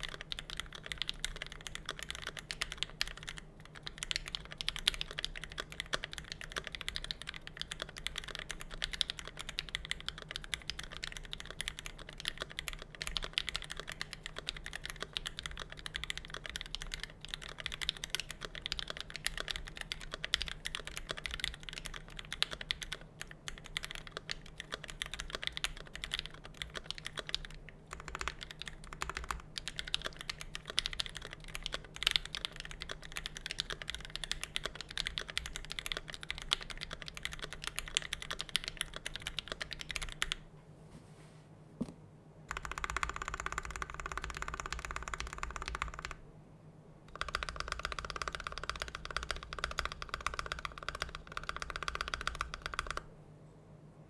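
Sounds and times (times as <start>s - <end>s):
mechanical keyboard typing: 0.0s - 40.4s, 42.5s - 46.2s, 47.1s - 53.1s.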